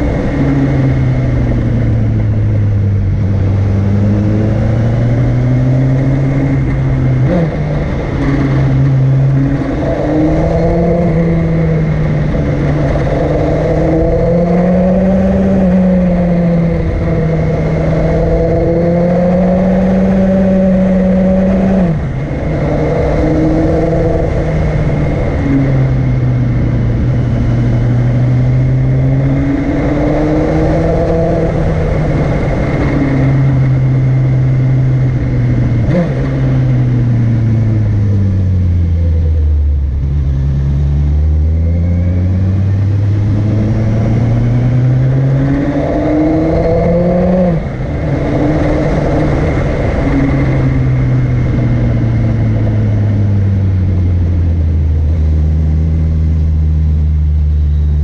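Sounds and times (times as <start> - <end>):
vehicle engine climbing: 0.0 - 58.0.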